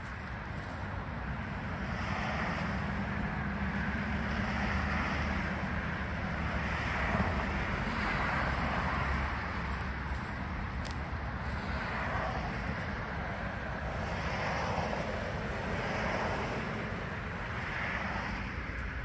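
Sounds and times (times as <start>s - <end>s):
rushing outdoor noise: 0.0s - 19.0s.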